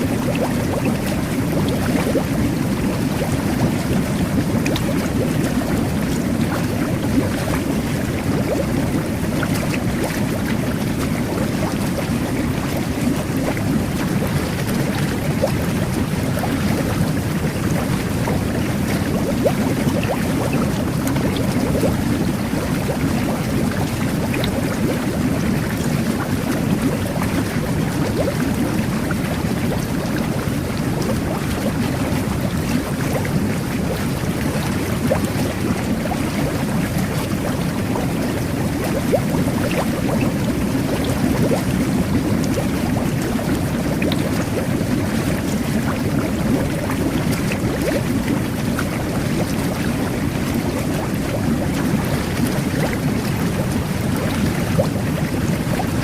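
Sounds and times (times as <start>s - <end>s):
jet bath water bubbling: 0.0s - 56.0s.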